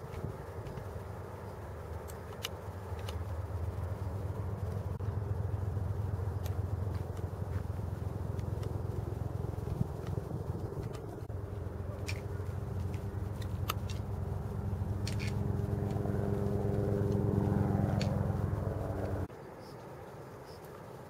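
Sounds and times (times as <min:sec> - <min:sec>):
steady low rumble: 0:00.0 - 0:19.3.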